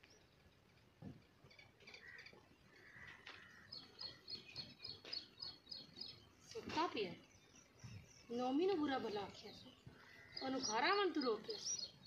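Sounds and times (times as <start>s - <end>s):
faint birdsong chirps: 0.0s - 12.0s.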